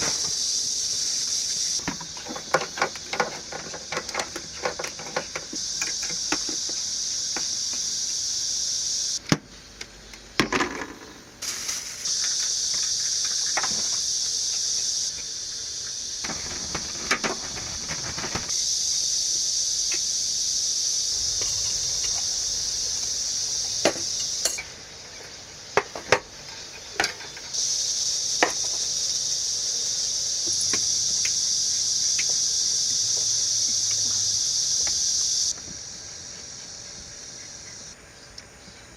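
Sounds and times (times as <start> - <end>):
insect chorus buzzing: 0.0 - 38.9.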